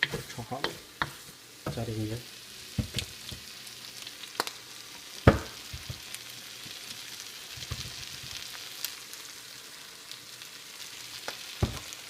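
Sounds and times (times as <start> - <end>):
rice sizzling in a hot pan: 0.0 - 12.0.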